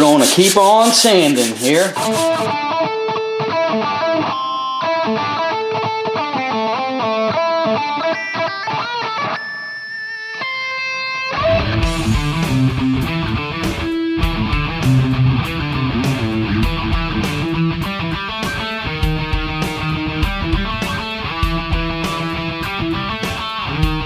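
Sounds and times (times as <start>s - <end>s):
electric guitar instrumental music: 2.5s - 24.0s.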